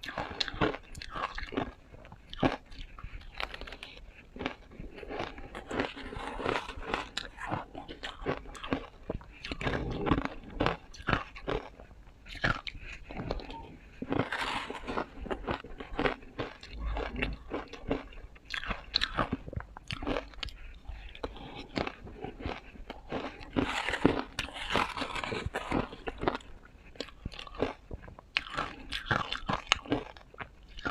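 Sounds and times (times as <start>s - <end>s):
ice being chewed: 0.0s - 30.9s.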